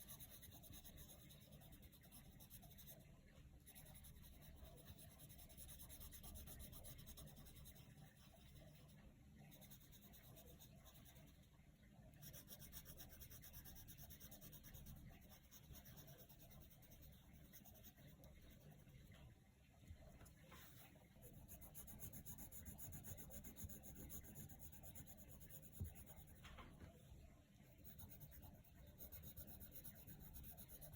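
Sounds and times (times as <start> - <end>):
pencil scratching on paper: 0.0 - 11.5, 12.2 - 19.2, 20.6 - 26.5, 27.8 - 30.9.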